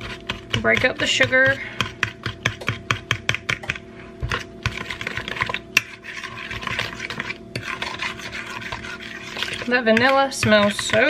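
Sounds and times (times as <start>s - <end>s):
fork stirring thick batter: 0.0s - 11.0s.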